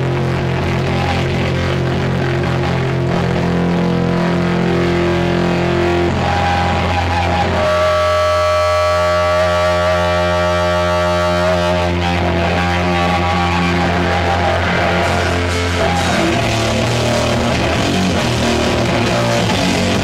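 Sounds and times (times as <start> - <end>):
distorted electric guitar droning: 0.0 - 20.0.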